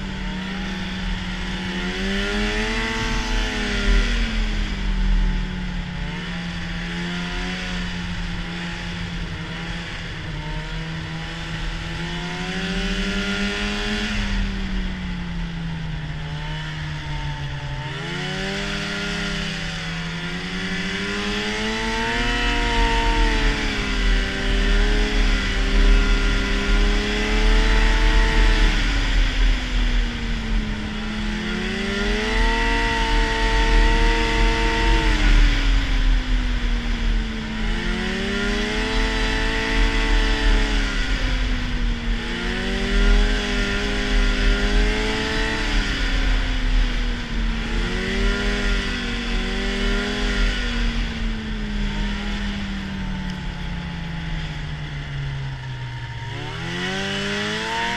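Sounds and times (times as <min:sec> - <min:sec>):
snowmobile engine running: 0:00.0 - 0:57.9.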